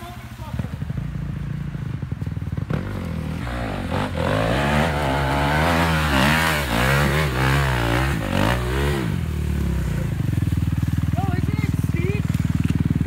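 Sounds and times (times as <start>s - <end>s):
dirt bike engine revving: 0.5s - 13.0s.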